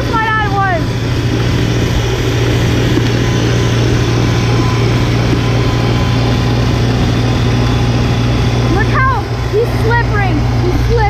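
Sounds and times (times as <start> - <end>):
snowblower engine running: 0.0 - 11.0.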